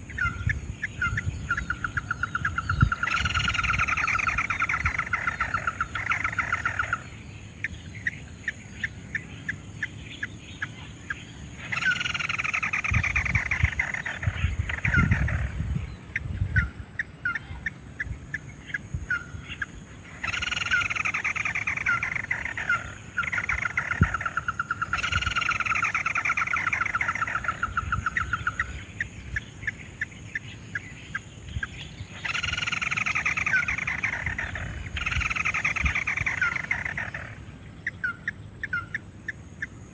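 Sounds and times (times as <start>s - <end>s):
bird ticking notes: 0.0s - 39.9s.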